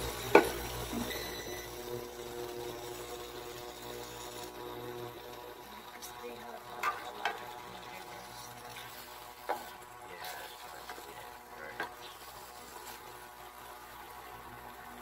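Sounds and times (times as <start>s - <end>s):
spatula stirring thick sauce: 0.0s - 14.9s.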